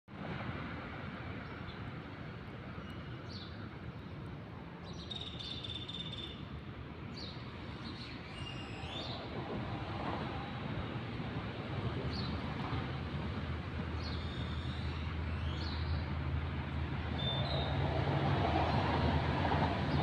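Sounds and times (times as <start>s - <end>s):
outdoor background noise: 0.1s - 20.0s.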